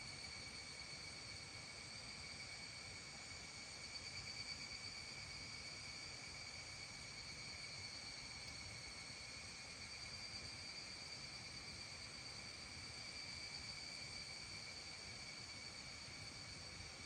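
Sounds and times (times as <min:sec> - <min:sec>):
insect chorus trilling: 0:00.0 - 0:17.0.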